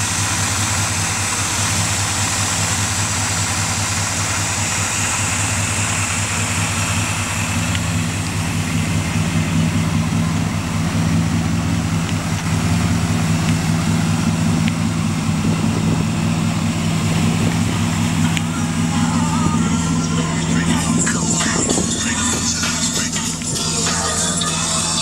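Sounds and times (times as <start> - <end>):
pickup truck engine idling: 0.0 - 25.0.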